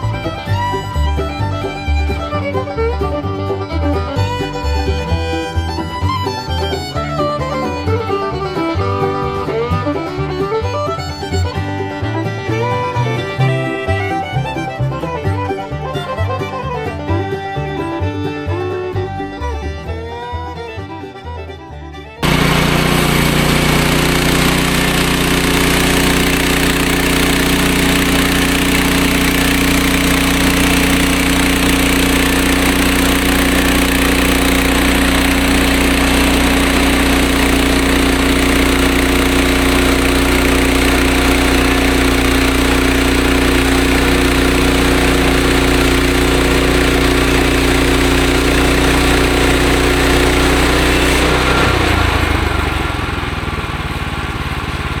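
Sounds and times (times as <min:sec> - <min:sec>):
sawmill engine running: 0:00.0 - 0:21.3, 0:22.2 - 0:55.0.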